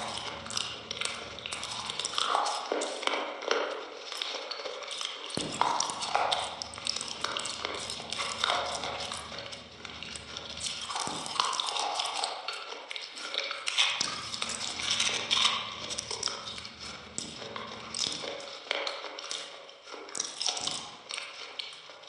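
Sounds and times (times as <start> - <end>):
mouth eating soft dessert: 0.0 - 22.0.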